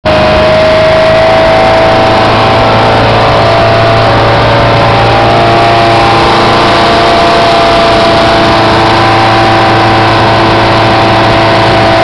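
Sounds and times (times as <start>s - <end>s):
speedboat engine running: 0.0s - 12.0s
wind and water rushing: 0.1s - 12.0s.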